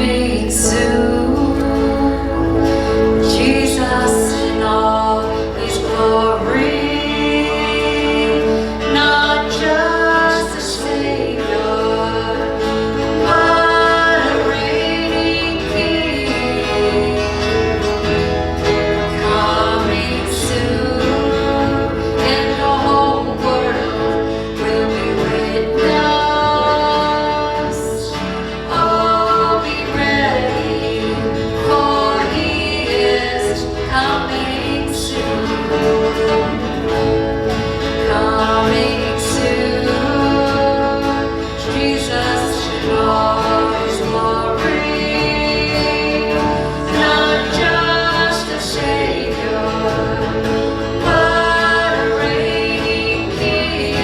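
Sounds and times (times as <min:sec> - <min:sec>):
gospel song with singers: 0:00.0 - 0:54.0.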